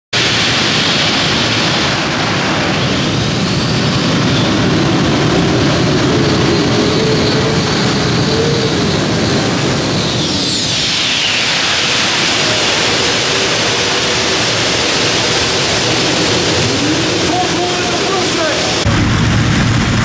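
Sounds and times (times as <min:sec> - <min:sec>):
high whine: 0:00.2 - 0:20.0
pulling tractor engine roaring: 0:00.2 - 0:20.0.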